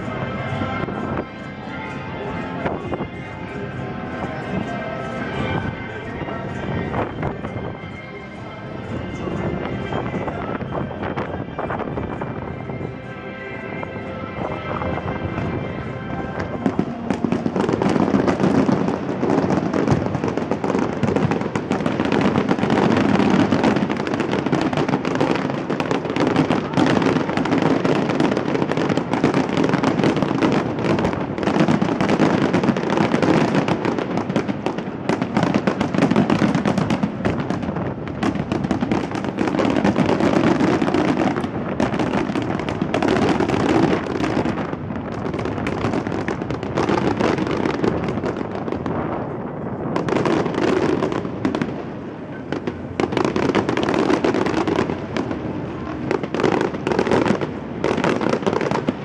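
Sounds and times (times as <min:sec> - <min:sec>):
fireworks bursts and crackles: 0:00.0 - 0:59.0.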